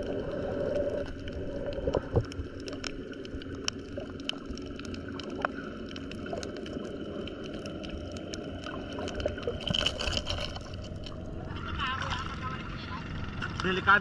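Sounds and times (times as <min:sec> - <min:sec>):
underwater clicks and crackles: 0:00.0 - 0:12.4
low underwater rumble: 0:00.0 - 0:13.8.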